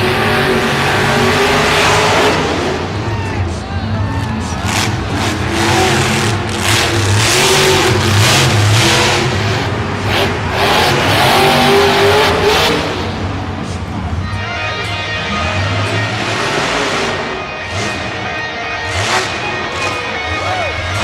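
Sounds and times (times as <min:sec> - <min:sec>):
truck engine revving hard: 0:00.0 - 0:14.3, 0:15.1 - 0:21.0.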